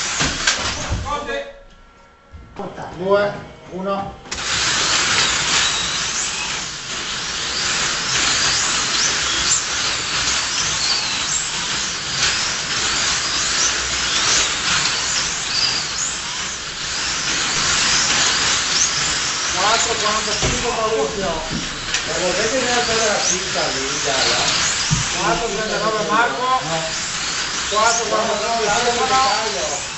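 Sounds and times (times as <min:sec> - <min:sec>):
slot car motors whining: 0:00.0 - 0:02.2, 0:04.2 - 0:29.9
steady hiss: 0:04.3 - 0:29.9.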